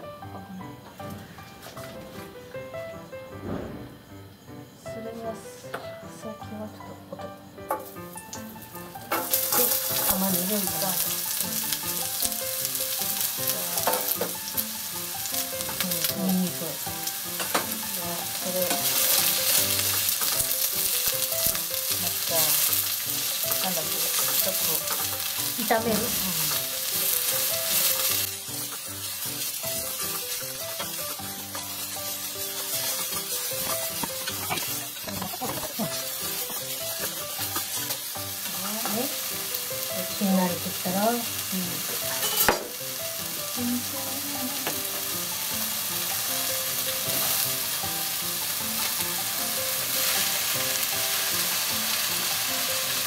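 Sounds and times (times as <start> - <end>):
meat sizzling in hot oil: 7.5 - 53.0.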